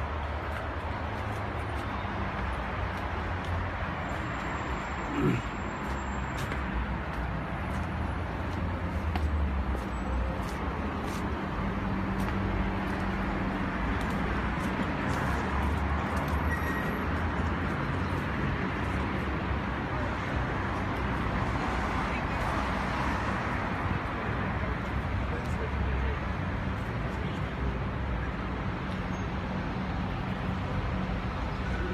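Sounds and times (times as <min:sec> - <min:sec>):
traffic noise: 0:00.0 - 0:31.9.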